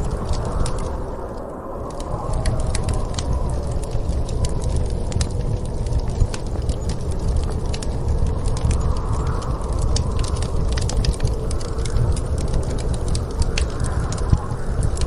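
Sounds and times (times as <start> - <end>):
storm wind rumbling: 0.0 - 15.0
wood fire crackling and popping: 0.0 - 15.0.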